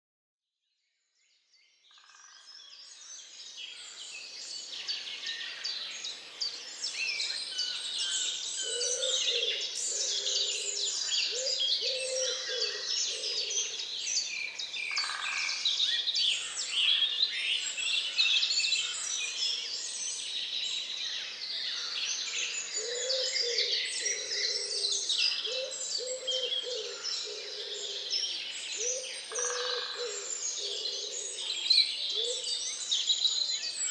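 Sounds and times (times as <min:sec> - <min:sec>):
many birds singing and chirping: 0:01.1 - 0:33.9.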